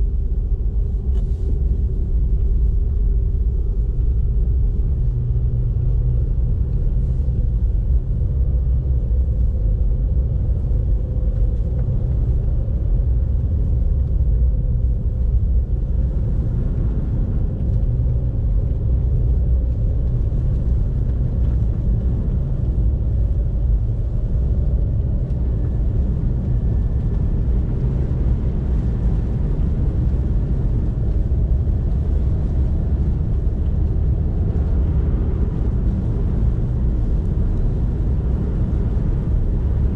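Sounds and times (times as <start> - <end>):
car road noise and engine: 0.0 - 39.9.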